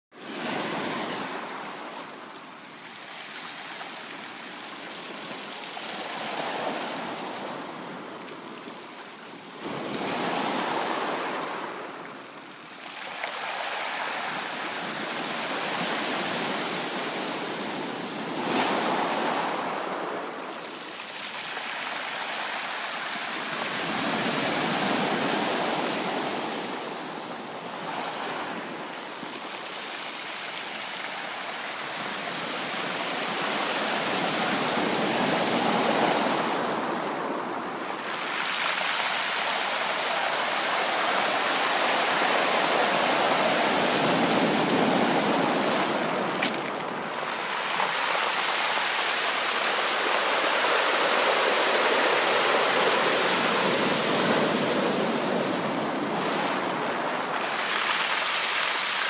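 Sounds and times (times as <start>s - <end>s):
ocean waves breaking on beach: 0.2s - 59.0s.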